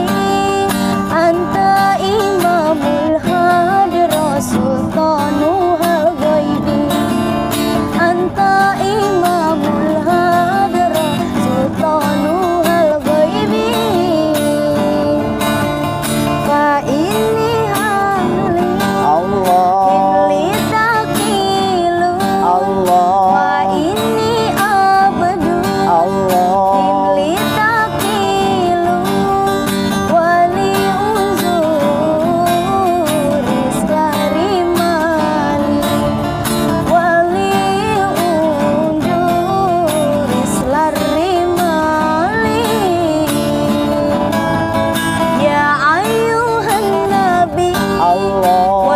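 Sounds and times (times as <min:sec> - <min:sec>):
strummed acoustic guitar: 0:00.0 - 0:48.9
woman singing devotional song: 0:00.0 - 0:48.9.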